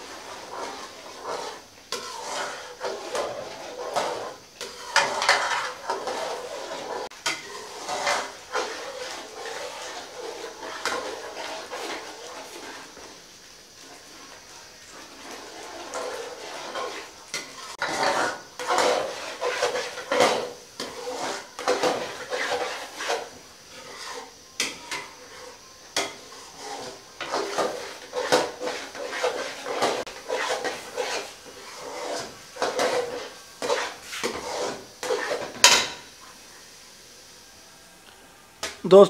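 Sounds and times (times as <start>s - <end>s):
metal spoon scraping pot: 0.0s - 13.1s, 14.9s - 36.1s.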